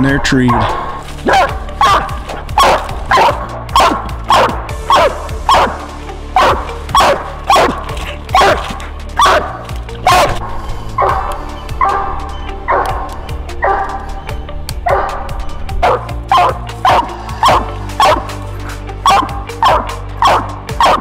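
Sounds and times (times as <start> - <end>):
dog barking: 0.5 - 18.4, 19.0 - 21.0.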